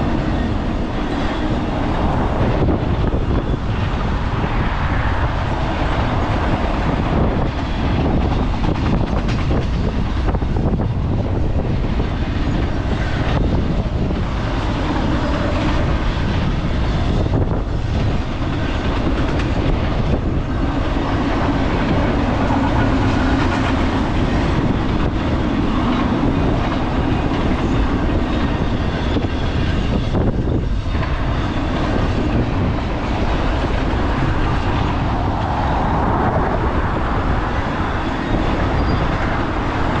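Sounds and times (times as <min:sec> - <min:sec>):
freight train wheels rumbling: 0:00.0 - 0:40.0.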